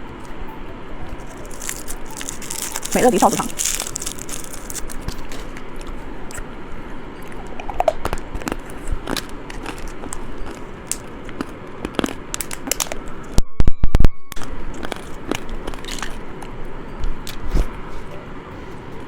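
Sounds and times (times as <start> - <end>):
crunching and chewing candy: 1.1 - 13.4, 14.3 - 19.0.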